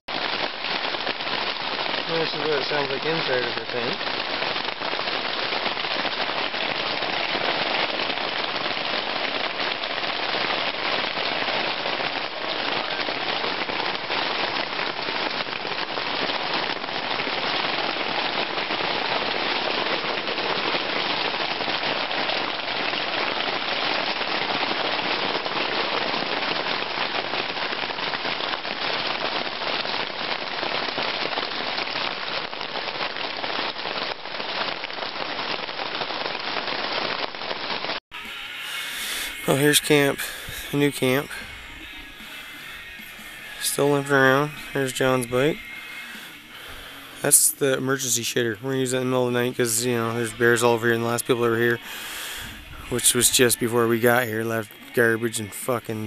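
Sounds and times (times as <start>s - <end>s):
rain on tent fabric: 0.0s - 56.0s.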